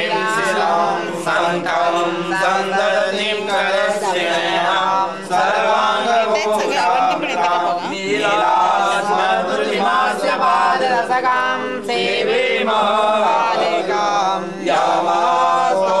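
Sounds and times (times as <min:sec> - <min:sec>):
group chanting a mantra: 0:00.0 - 0:16.0.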